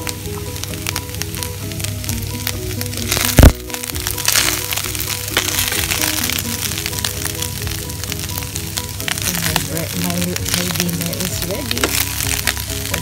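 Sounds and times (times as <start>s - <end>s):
background music: 0.0s - 13.0s
rice sizzling in a pan: 0.0s - 13.0s.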